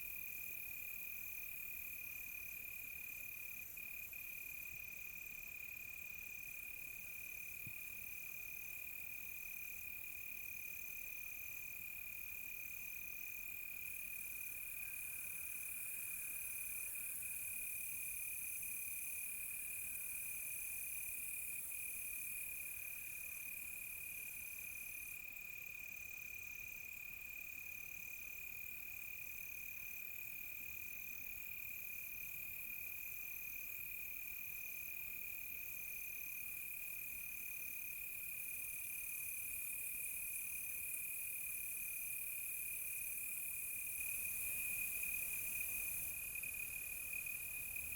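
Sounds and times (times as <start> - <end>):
faint hiss of insects: 0.0 - 47.9.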